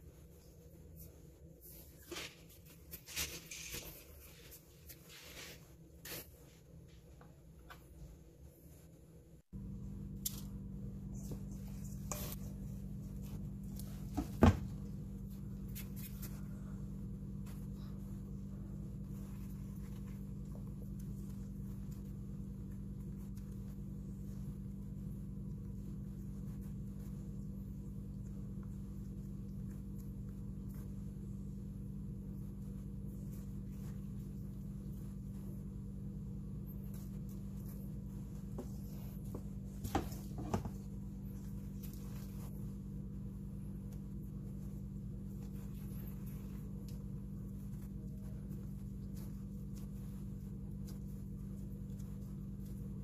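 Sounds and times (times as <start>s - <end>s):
hands shaping dough rustling: 0.0s - 53.0s
low background hum: 0.0s - 53.0s.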